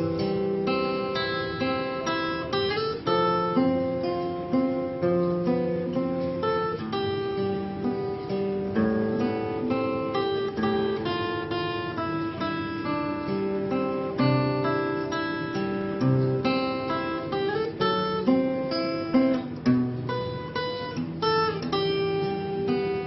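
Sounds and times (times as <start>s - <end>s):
fingerpicked acoustic guitar: 0.0s - 23.0s.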